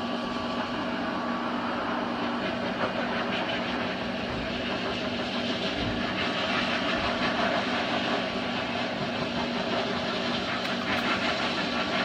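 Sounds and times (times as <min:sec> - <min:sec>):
pet dryer blowing air: 0:00.0 - 0:12.0.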